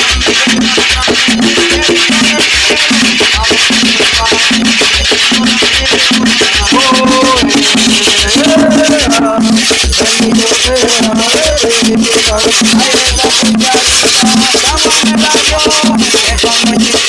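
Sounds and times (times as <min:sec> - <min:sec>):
latin music with bass line: 0:00.0 - 0:17.0
shaker rattle: 0:00.0 - 0:17.0.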